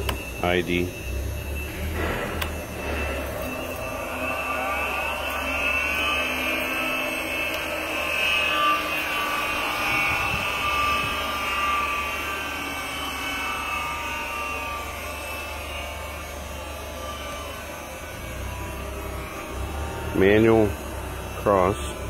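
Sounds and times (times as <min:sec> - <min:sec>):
grinder machine whirring: 0:00.0 - 0:22.0.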